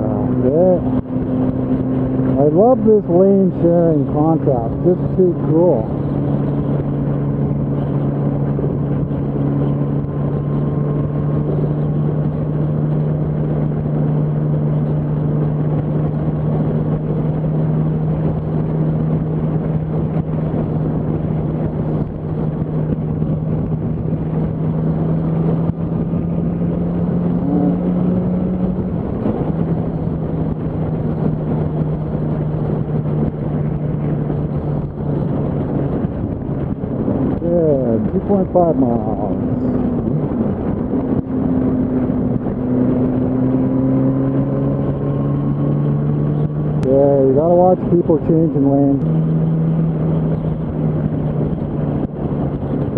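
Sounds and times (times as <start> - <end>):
motorcycle engine cruising: 0.0 - 52.9
wind rush over microphone: 0.0 - 52.9.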